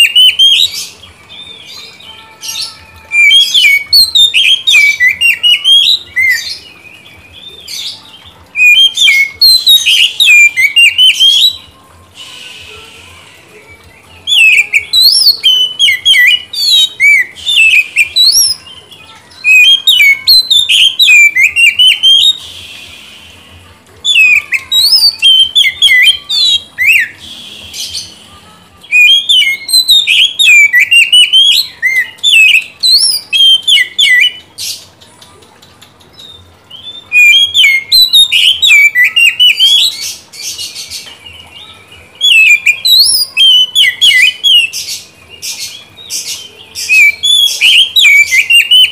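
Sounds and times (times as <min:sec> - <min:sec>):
bird singing whistles: 0:00.0 - 0:00.9, 0:02.4 - 0:06.6, 0:08.6 - 0:18.6, 0:19.4 - 0:23.4, 0:24.1 - 0:28.2, 0:28.9 - 0:34.4, 0:36.2 - 0:40.8, 0:42.2 - 0:45.0, 0:45.6 - 0:48.9.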